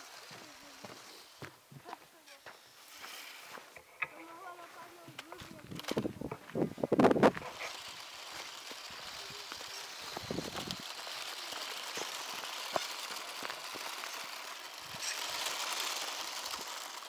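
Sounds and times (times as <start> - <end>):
toy car motor whining: 0.0 - 17.0.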